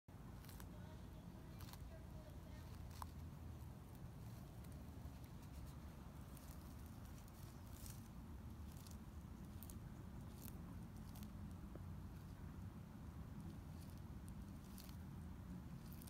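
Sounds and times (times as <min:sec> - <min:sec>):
low steady rumble: 0:00.1 - 0:16.0
dry leaves crackling underfoot: 0:00.2 - 0:16.0.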